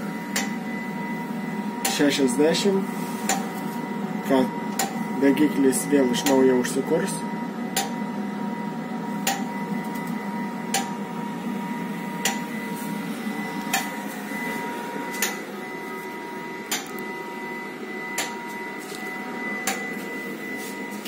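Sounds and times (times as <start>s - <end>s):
fan blowing with faint whine: 0.0s - 21.0s.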